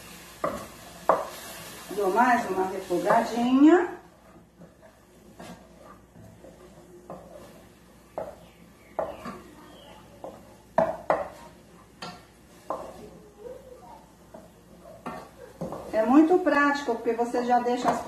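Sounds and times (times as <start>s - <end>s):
vegetables sauteing in oil: 0.0s - 18.0s
wooden spoon scraping a saucepan: 0.1s - 13.3s, 14.1s - 18.0s.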